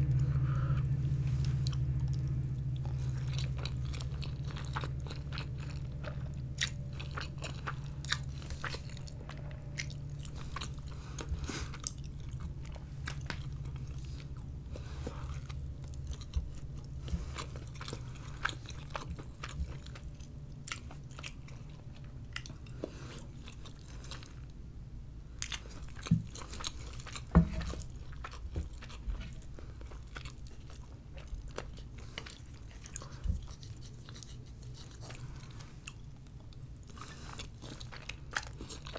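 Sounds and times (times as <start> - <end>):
wet chewing with mouth clicks: 0.0 - 24.6, 25.4 - 38.9
low hum: 0.0 - 38.9.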